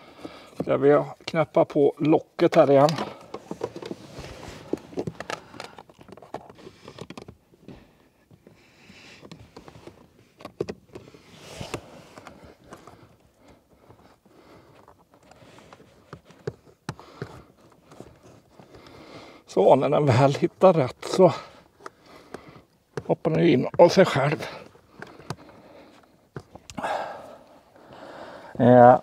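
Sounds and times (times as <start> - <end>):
plastic cover clicking and scraping: 2.0 - 14.1, 14.7 - 19.1, 20.1 - 26.8.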